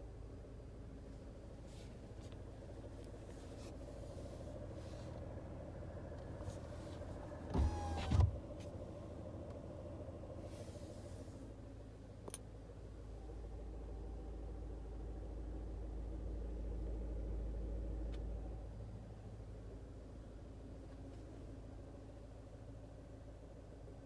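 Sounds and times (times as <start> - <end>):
car engine idling: 0.1 - 24.0.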